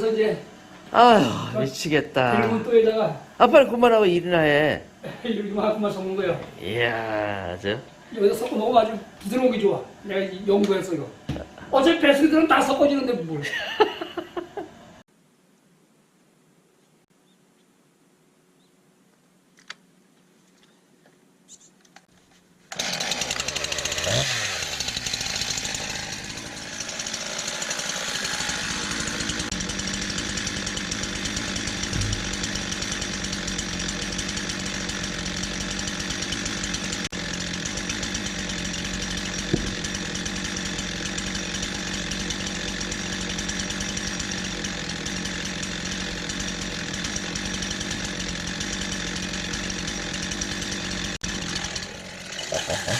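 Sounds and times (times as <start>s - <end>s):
chainsaw running: 0.0s - 14.0s, 22.7s - 52.9s.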